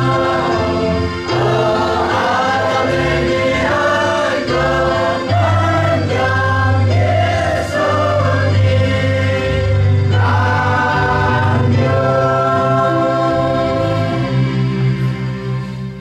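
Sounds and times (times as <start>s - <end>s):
congregation singing a hymn: 0.0s - 15.6s.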